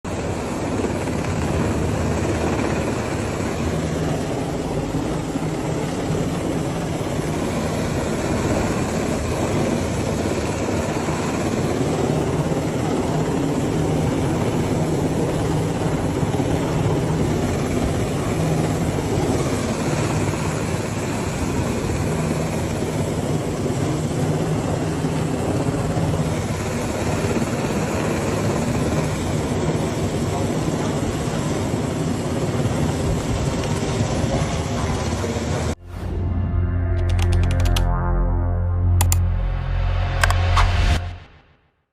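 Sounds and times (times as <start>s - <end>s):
helicopter rotor and turbine noise: 0.0s - 41.0s.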